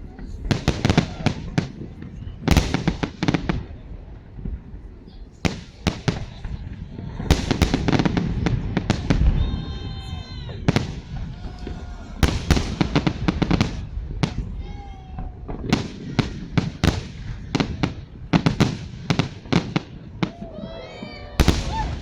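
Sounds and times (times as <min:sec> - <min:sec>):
fireworks cracking and popping: 0:00.0 - 0:22.0.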